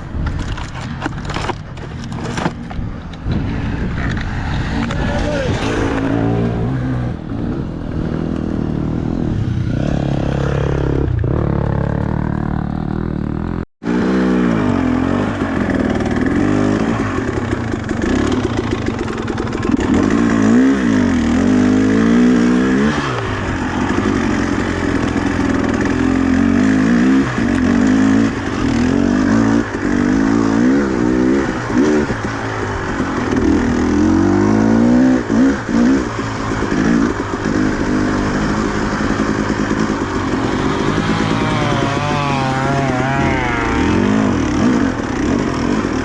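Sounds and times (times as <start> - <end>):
two-stroke dirt bike engine revving: 2.0 - 46.0.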